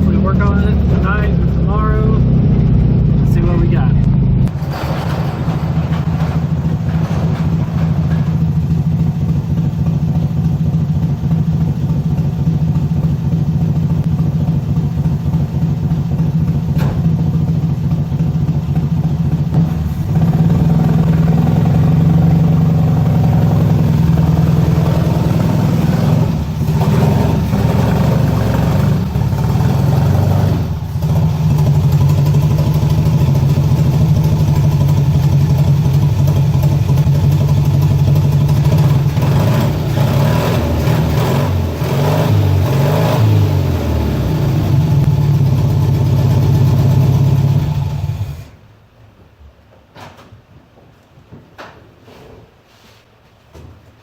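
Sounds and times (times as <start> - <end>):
vehicle engine running: 0.0 - 48.6.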